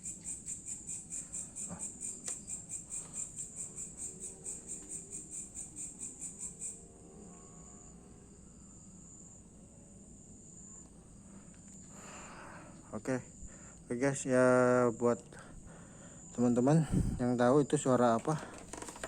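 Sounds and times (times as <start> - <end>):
insect chirping in pulses: 0.0 - 15.0, 15.6 - 19.0.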